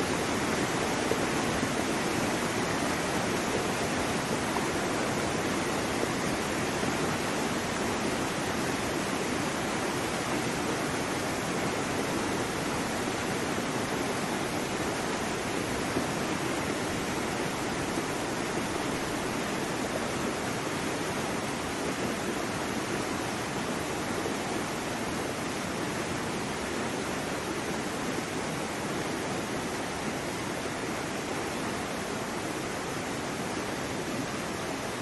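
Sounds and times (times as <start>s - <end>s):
waterfall cascading: 0.0s - 35.0s.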